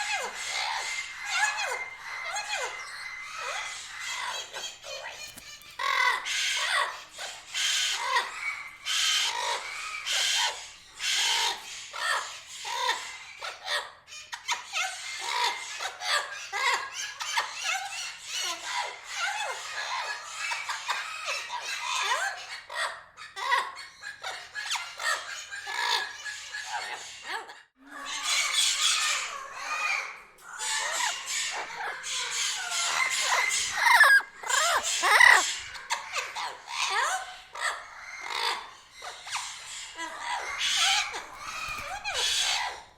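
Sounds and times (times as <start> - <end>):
parrots squawking and chattering: 0.0 - 42.9.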